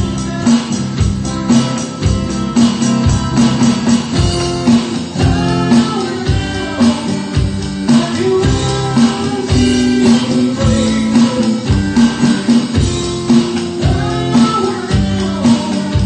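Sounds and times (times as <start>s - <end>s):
person singing: 0.0s - 16.0s
rock band playing: 0.0s - 16.0s.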